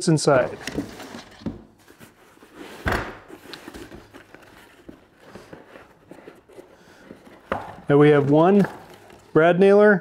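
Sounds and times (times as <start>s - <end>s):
cardboard rustling: 0.3s - 9.4s.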